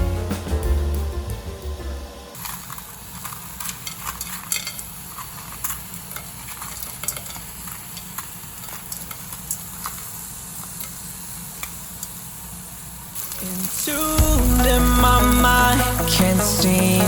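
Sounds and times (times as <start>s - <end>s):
food sizzling in a frying pan: 2.4s - 17.0s.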